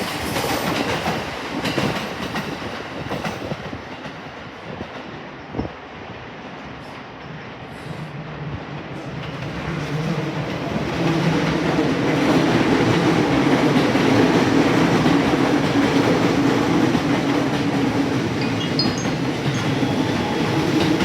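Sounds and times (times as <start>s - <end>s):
electric train running past: 0.0s - 21.0s.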